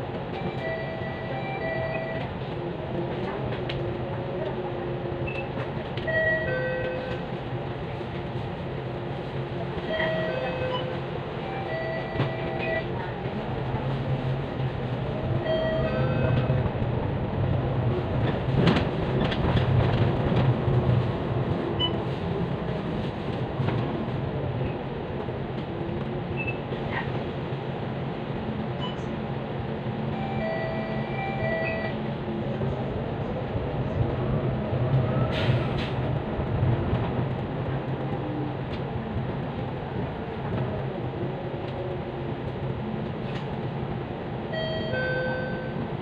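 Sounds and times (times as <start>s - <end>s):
bus engine hum: 0.0s - 46.0s.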